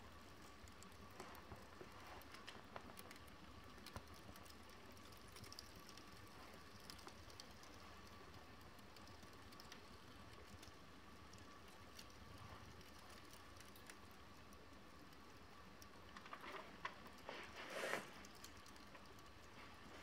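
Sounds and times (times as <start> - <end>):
paper burning crackle: 0.0 - 20.0.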